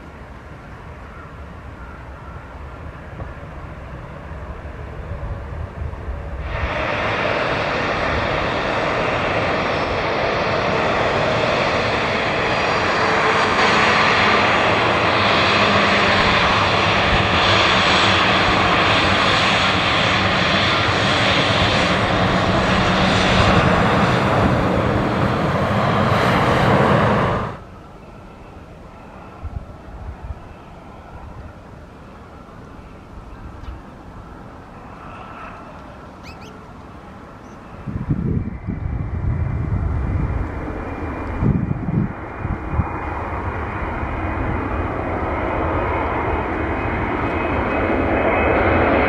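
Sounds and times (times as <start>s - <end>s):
jet engines roaring: 0.0s - 49.0s.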